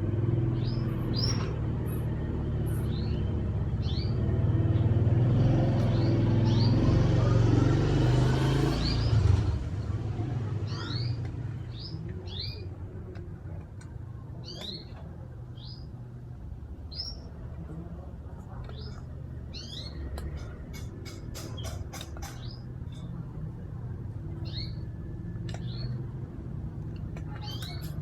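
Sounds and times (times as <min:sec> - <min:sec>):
small birds chirping: 0:00.0 - 0:28.0
vehicle engine rumbling: 0:00.0 - 0:28.0.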